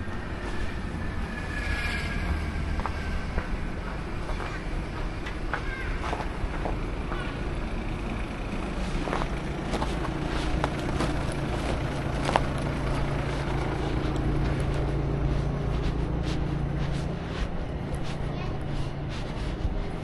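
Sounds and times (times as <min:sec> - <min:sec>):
engine humming: 0:00.0 - 0:20.0
street noise: 0:00.0 - 0:20.0.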